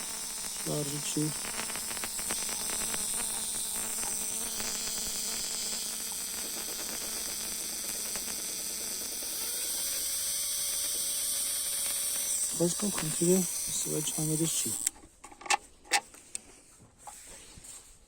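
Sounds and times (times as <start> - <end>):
fast ticking of sparks: 0.0 - 15.0
steady high hiss: 0.0 - 15.0.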